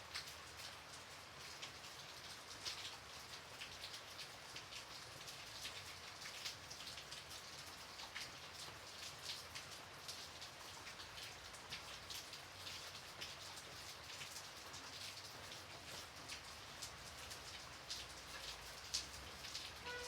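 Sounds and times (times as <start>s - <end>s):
rain drops pattering: 0.0s - 20.0s.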